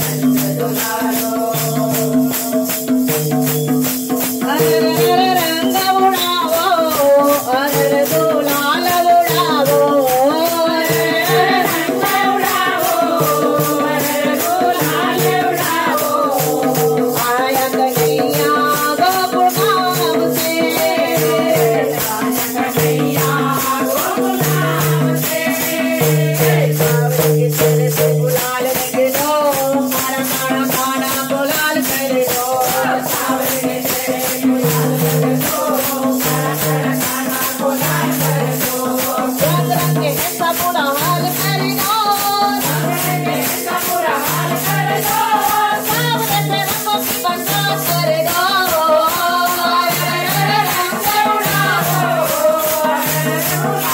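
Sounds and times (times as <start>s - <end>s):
women singing in unison: 0.0s - 3.1s, 4.1s - 53.9s.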